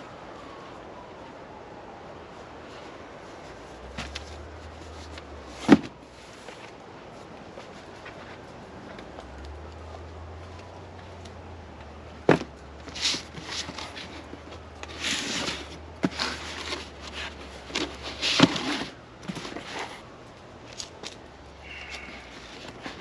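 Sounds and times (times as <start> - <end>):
rustling: 2.3 - 23.0.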